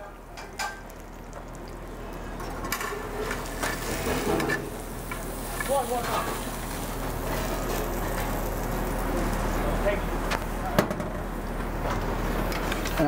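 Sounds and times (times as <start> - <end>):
steak sizzling on metal platter: 0.3 - 13.0.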